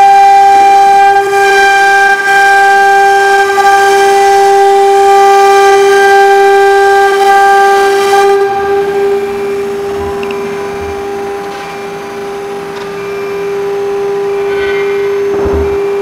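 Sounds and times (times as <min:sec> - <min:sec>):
router spindle whining: 0:00.0 - 0:16.0.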